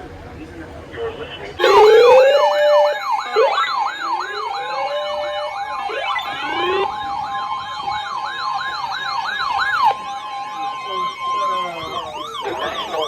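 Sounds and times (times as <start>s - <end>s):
rising wails: 1.6s - 13.0s
steady alert tone: 1.6s - 13.0s
warbling warning alarm: 1.6s - 13.0s.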